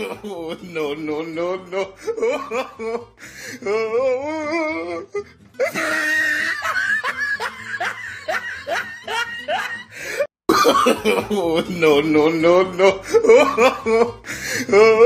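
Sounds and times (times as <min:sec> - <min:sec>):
background music: 0:00.0 - 0:15.0
person laughing: 0:00.0 - 0:15.0.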